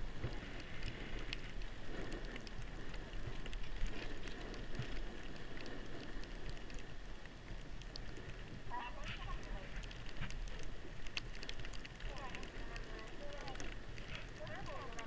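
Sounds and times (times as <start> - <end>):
small crackles: 0.0 - 15.0
wind rumble on microphone: 0.0 - 15.0.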